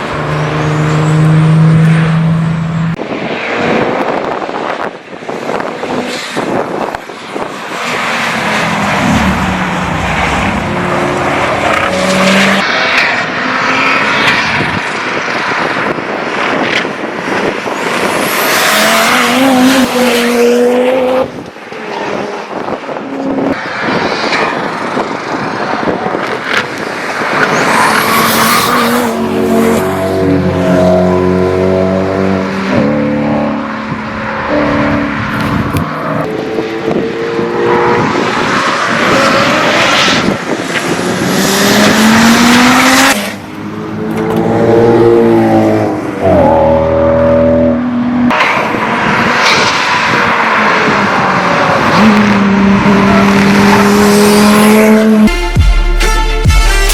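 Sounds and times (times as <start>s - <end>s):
race car engines revving: 0.0s - 55.3s.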